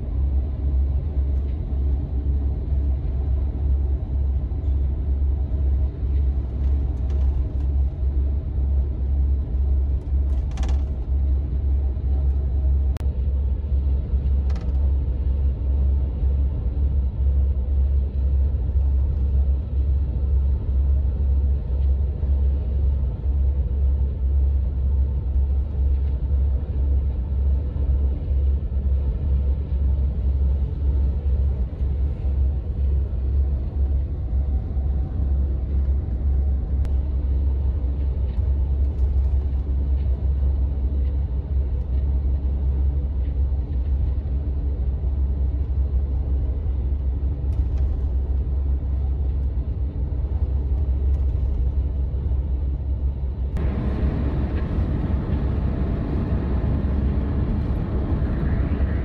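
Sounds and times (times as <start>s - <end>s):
bus engine and tyre rumble: 0.0s - 59.0s.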